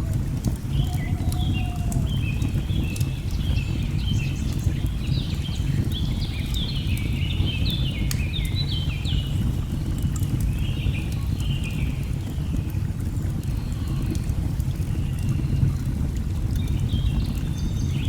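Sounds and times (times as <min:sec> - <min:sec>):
burning logs crackling: 0:00.0 - 0:18.0.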